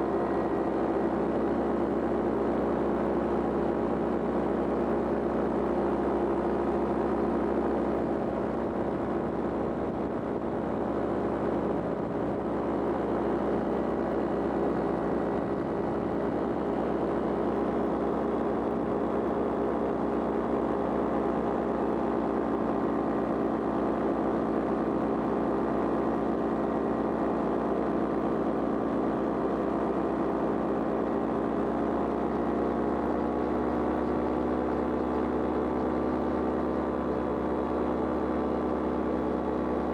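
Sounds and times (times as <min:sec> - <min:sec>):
paraglider engine droning: 0:00.0 - 0:39.9.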